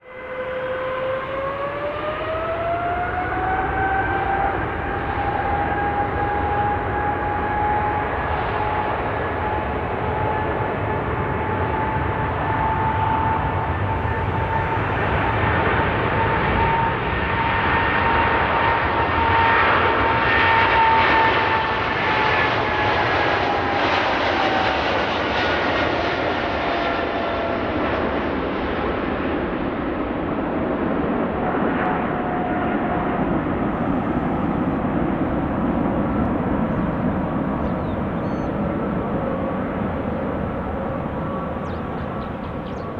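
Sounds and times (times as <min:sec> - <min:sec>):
jet engines whining and roaring: 0:00.0 - 0:42.9.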